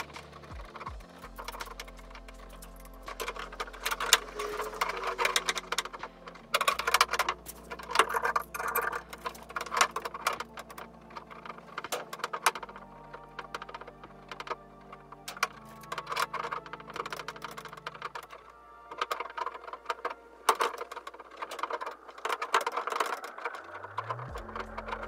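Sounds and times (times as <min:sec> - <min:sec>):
soft background music: 0:00.0 - 0:25.0.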